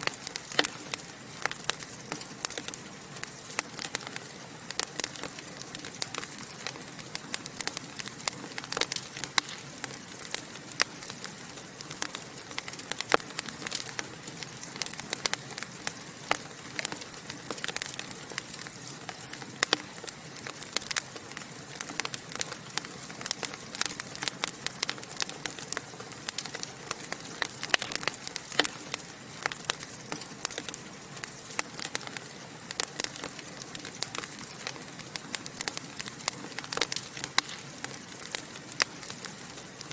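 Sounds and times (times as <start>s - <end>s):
fire crackling and popping: 0.0s - 39.9s
soft steady hiss: 0.0s - 39.9s.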